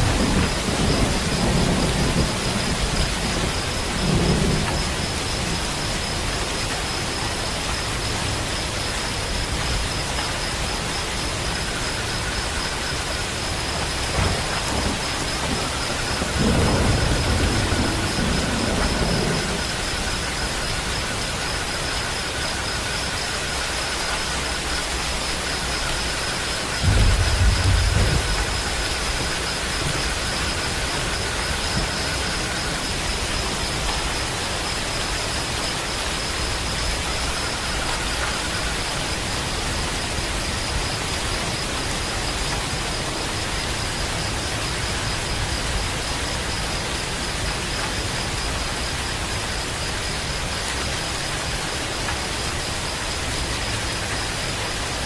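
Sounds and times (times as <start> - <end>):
thunder rumbling: 0.0 - 50.5
heavy rain falling: 0.0 - 55.0.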